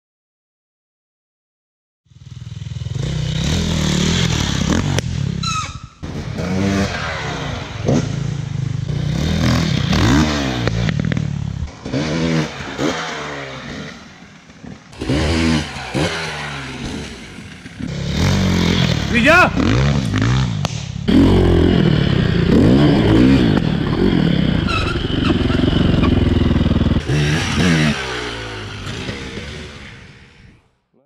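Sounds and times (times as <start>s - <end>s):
dirt bike engine revving: 2.1s - 30.6s.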